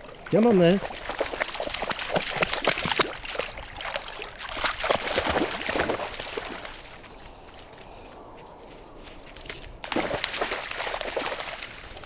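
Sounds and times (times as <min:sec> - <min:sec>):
puppy splashing through water: 0:00.0 - 0:07.8, 0:09.3 - 0:12.0.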